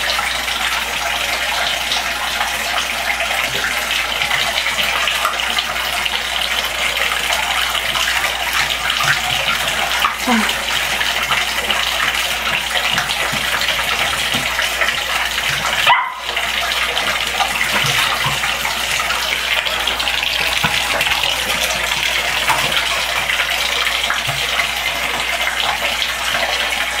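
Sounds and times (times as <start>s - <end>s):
water running into bathtub: 0.0s - 27.0s.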